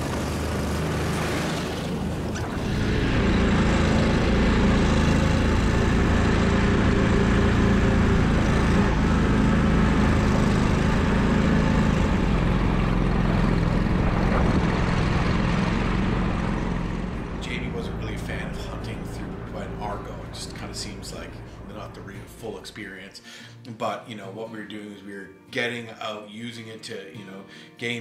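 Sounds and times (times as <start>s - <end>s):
tracked vehicle engine running: 0.0s - 22.7s.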